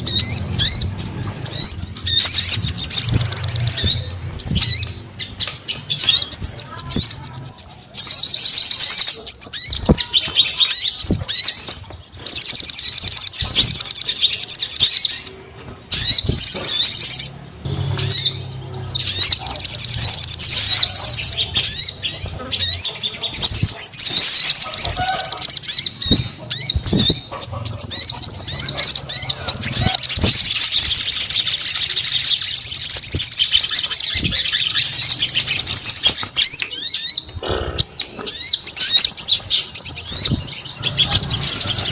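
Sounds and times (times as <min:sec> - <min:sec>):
songbird twittering and trilling: 0:00.0 - 0:41.9.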